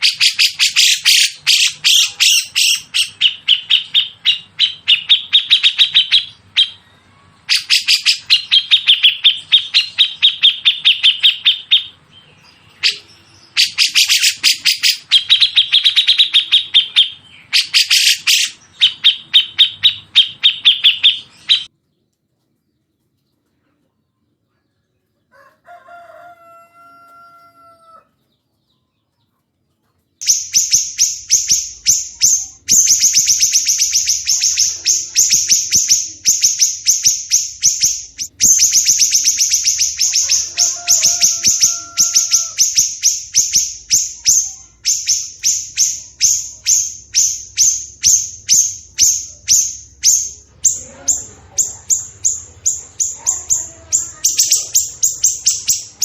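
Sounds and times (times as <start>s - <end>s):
songbird song: 0.0s - 56.0s.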